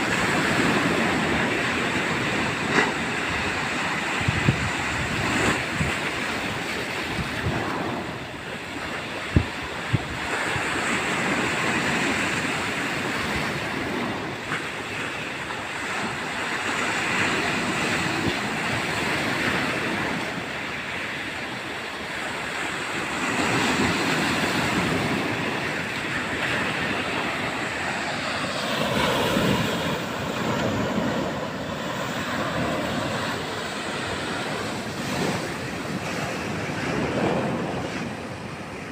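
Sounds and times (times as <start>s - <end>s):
heavy surf crashing: 0.0s - 38.9s
wind buffeting microphone: 0.0s - 38.9s.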